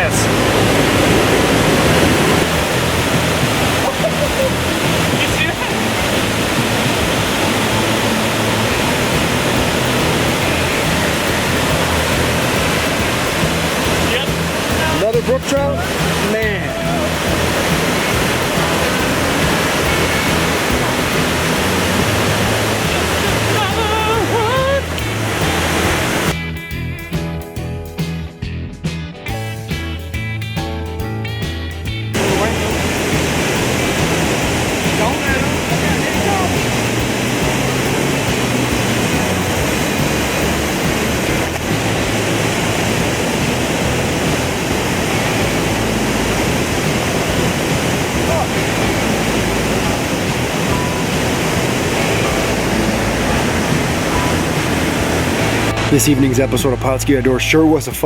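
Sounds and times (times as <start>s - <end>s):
waterfall roaring: 0.0s - 26.4s, 32.2s - 56.8s.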